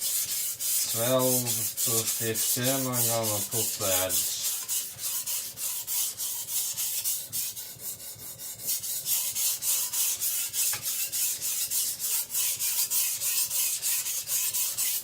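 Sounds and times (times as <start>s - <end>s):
blade rasping on whetstone: 0.0s - 15.0s.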